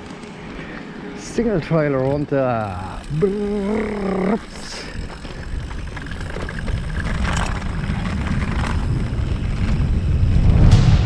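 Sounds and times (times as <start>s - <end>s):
bike tyres rolling over grass: 0.0s - 11.0s
wind buffeting microphone: 0.0s - 11.0s.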